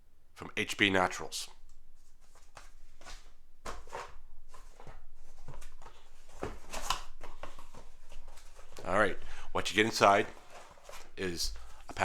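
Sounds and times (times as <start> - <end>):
packaging rustling and scraping: 2.0 - 12.0.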